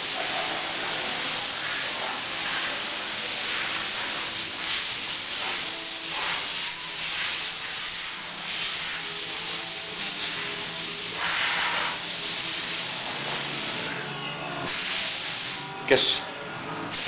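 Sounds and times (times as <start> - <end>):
hiss of rushing air or spray: 0.0 - 14.0, 14.6 - 15.7.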